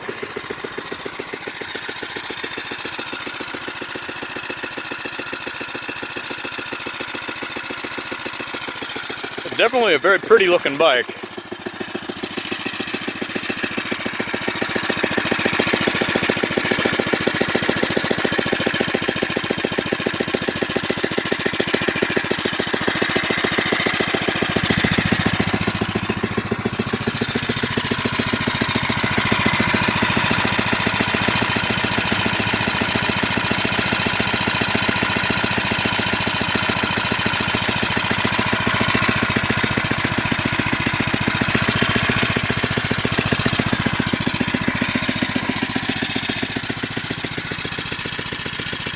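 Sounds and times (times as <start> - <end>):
small engine idling: 0.0 - 48.9.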